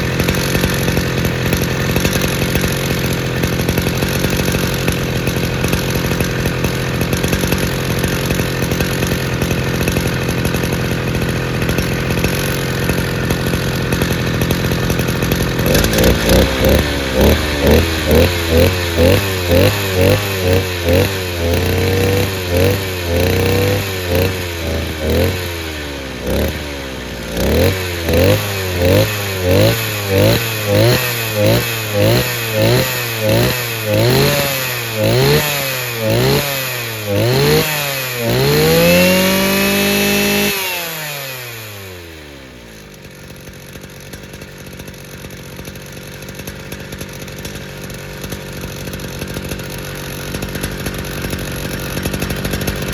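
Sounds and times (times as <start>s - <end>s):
brush cutter engine revving: 0.0s - 52.9s.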